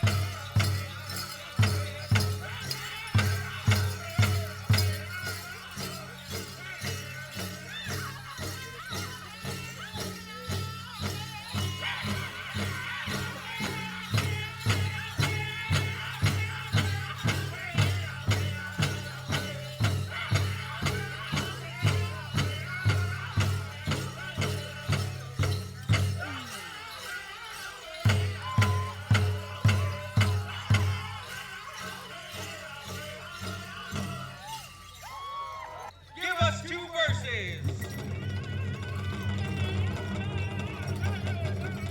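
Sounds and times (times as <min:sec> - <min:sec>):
steady drumbeat: 0:00.0 - 0:34.6, 0:36.2 - 0:41.9
group singing: 0:00.0 - 0:35.9.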